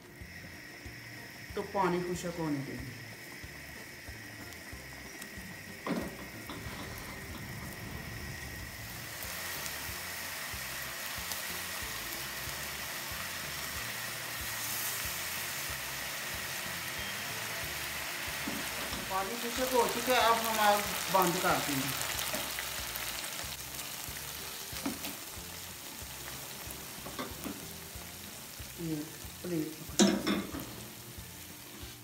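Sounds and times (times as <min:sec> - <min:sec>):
liquid bubbling and sizzling in pan: 0:00.0 - 0:32.0.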